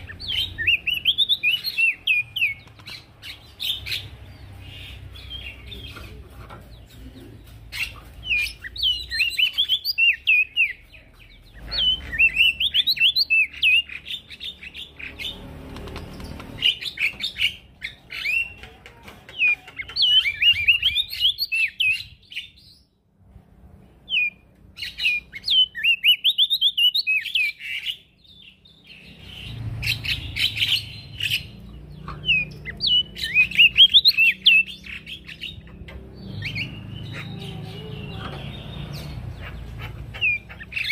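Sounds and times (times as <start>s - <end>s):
bird twittering: 0.0s - 6.1s, 6.7s - 18.6s, 24.1s - 40.9s.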